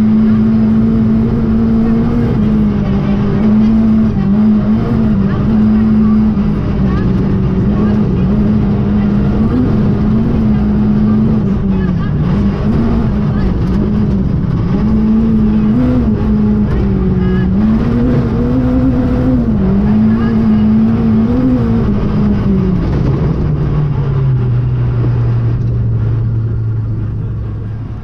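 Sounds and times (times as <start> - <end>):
car engine at high revs: 0.0 - 28.0
road noise: 0.0 - 28.0.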